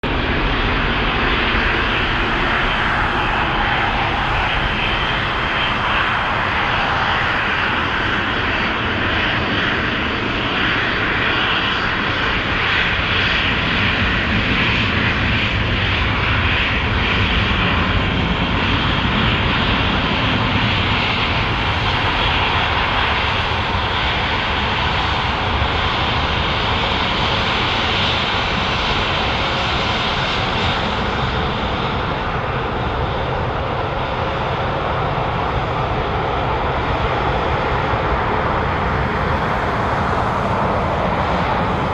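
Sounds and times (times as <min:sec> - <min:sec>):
jet engines idling: 0:00.0 - 0:41.9.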